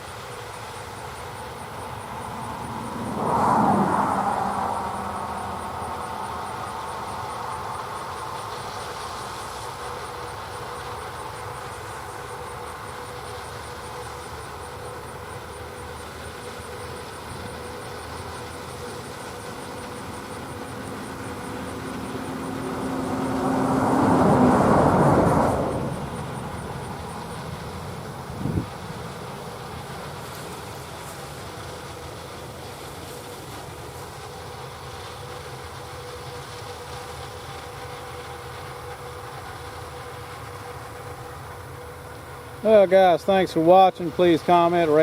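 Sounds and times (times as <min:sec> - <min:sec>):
tractor and peanut picker droning: 0:00.0 - 0:45.0.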